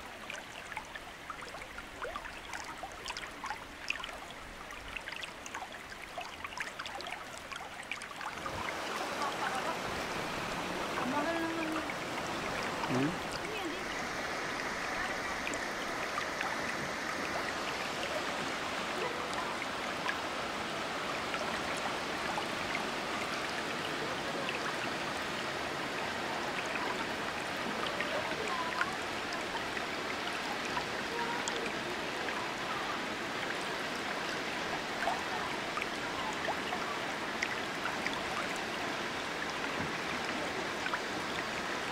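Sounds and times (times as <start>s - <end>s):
waterfall rushing: 8.2s - 41.9s.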